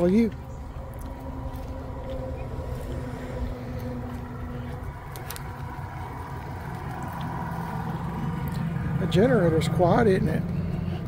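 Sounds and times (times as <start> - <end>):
generator humming: 0.0 - 11.0.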